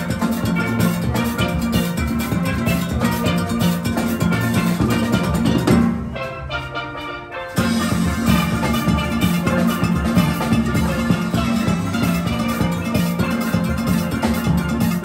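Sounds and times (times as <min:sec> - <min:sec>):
drum kit: 0:00.0 - 0:06.8, 0:07.4 - 0:15.0
steel pans playing tune: 0:00.0 - 0:15.0.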